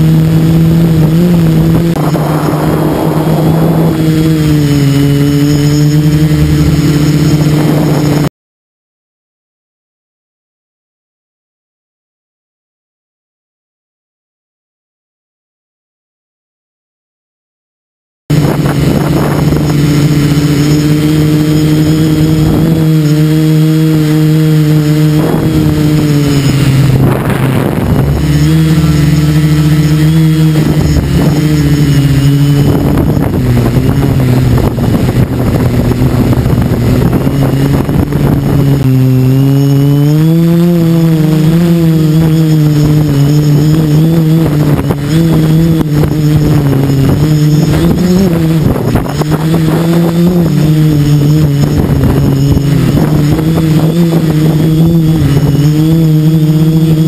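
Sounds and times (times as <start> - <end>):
quadcopter motors droning: 0.0 - 8.3, 18.3 - 57.0
wind buffeting microphone: 0.0 - 8.3, 18.3 - 57.0.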